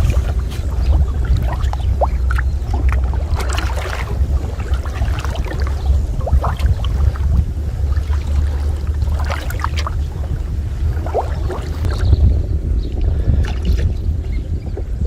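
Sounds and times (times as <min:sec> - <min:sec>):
steady low rumble: 0:00.0 - 0:15.0
water splashing and dribbling: 0:00.0 - 0:15.0.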